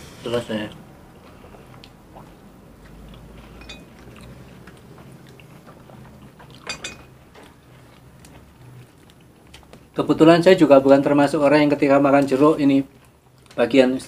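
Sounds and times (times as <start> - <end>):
soft chewing with wet clicks: 0.7 - 10.0, 11.7 - 13.6.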